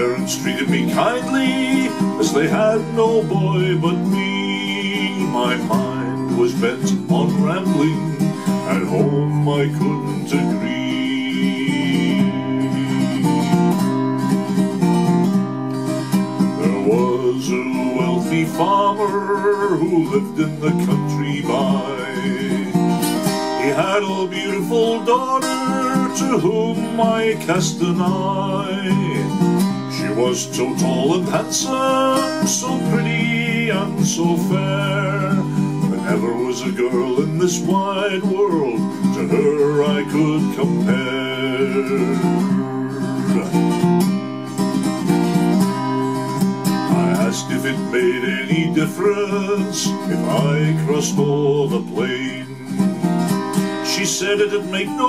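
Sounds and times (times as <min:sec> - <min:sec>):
instrumental country music: 0:00.0 - 0:55.0.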